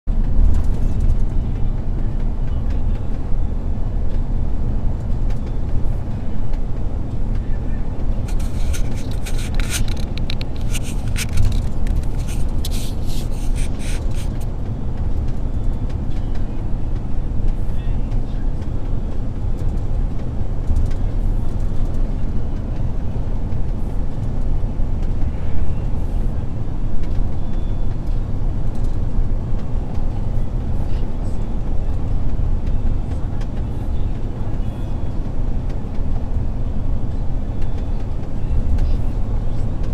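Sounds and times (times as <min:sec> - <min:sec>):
road noise: 0:00.0 - 0:39.9
diesel truck engine rumbling: 0:00.1 - 0:39.9.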